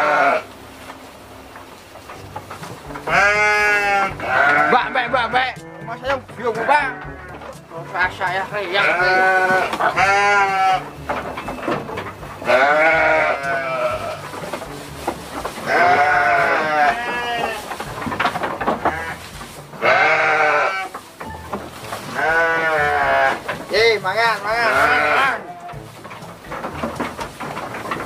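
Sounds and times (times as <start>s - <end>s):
sheep bleating: 0.0s - 0.5s, 2.8s - 26.9s.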